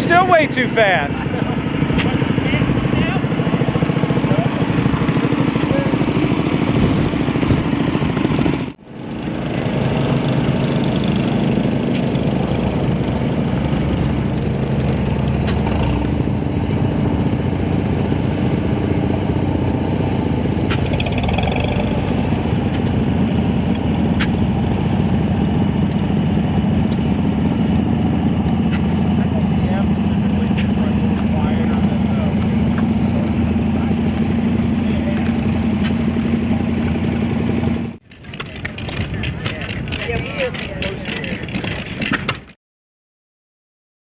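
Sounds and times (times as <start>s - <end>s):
tractor engine running: 0.0s - 42.6s.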